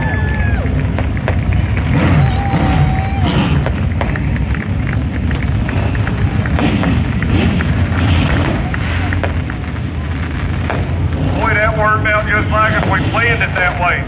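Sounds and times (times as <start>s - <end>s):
indistinct voices: 0.0s - 14.0s
low engine rumble: 0.0s - 14.0s.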